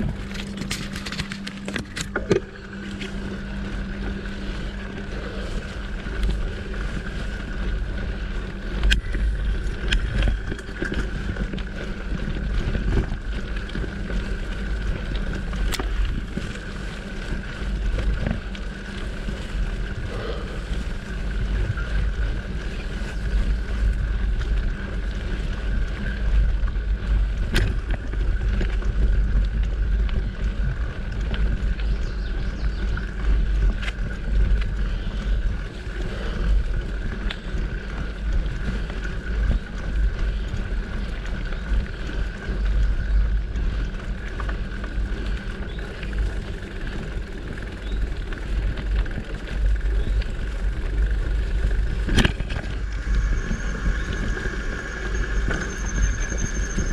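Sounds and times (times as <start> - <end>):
bike tyres rattling: 0.0 - 56.9
wind rumble on microphone: 0.0 - 56.9.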